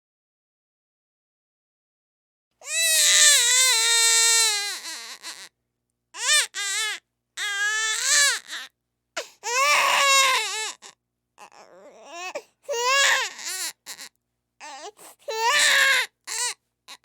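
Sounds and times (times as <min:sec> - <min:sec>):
infant crying: 0:02.6 - 0:05.5, 0:06.2 - 0:17.0.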